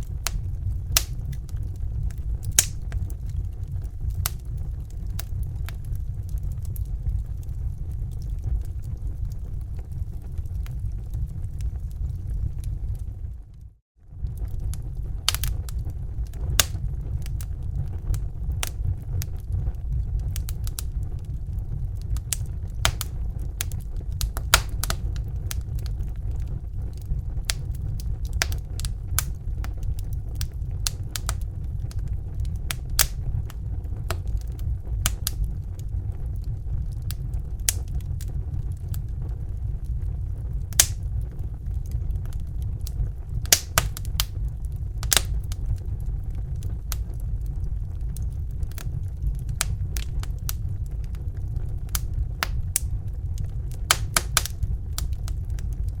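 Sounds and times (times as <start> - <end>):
fire crackling and popping: 0.0 - 56.0
steady low rumble: 0.0 - 56.0.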